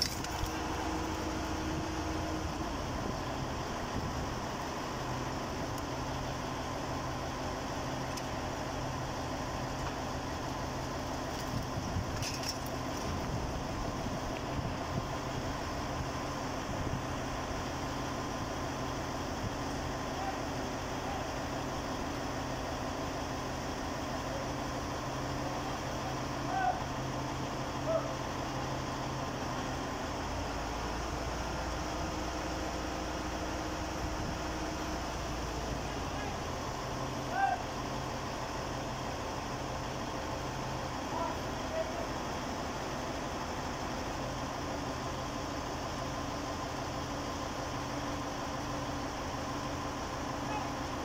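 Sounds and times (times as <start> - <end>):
heavy machinery engine drone: 0.0 - 51.0.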